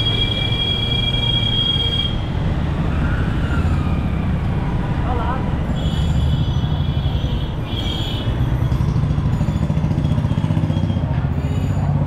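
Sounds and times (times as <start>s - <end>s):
street traffic: 0.0s - 12.0s
vehicle engine rumbling: 0.0s - 12.0s.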